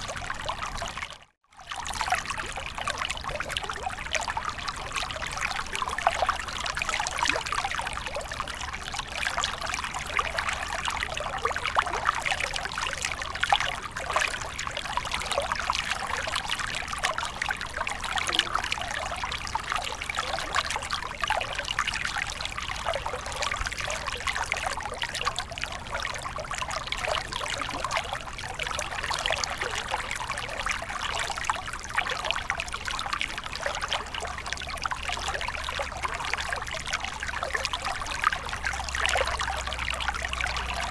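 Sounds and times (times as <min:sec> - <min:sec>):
stream babbling over rocks: 0:01.7 - 0:40.9.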